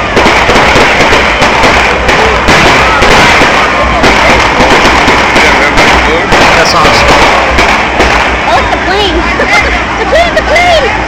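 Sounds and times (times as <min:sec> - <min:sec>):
fireworks crackling and booming: 0:00.0 - 0:11.0.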